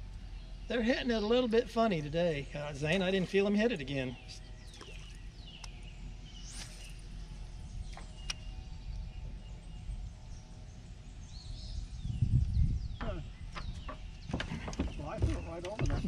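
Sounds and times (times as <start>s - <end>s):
steady low rumble: 0.0s - 14.4s
bird chirps: 0.0s - 16.0s.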